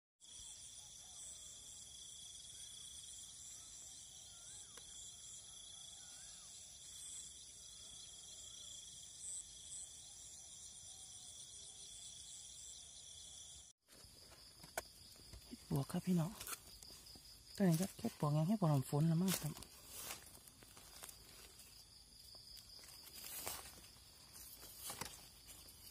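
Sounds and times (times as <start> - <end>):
crickets and insects trilling: 0.2 - 25.9.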